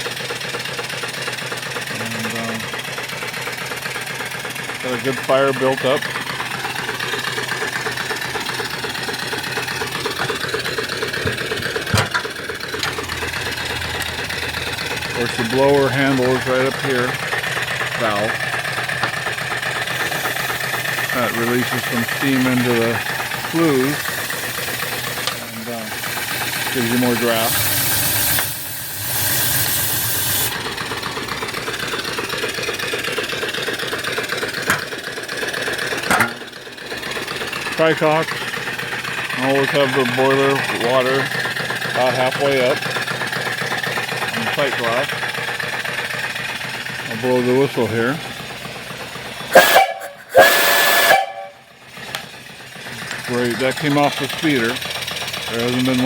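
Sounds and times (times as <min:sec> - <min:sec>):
steam engine running: 0:00.0 - 0:56.0.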